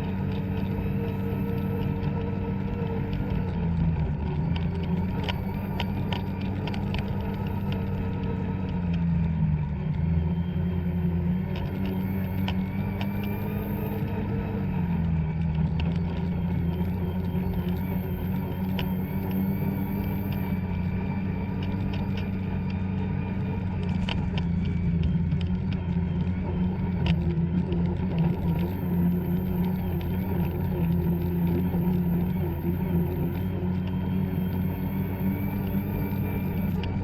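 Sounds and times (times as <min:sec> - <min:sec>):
snowmobile engine running: 0:00.0 - 0:37.0.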